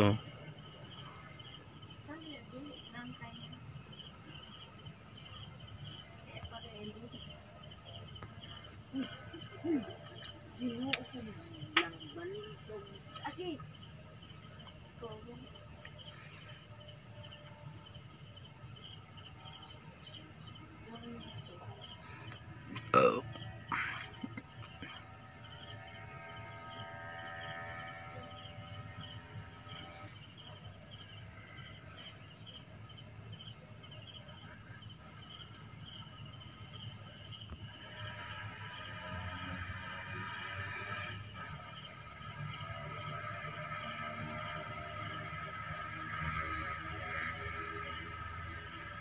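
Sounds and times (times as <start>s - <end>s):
crickets trilling: 0.0s - 49.0s.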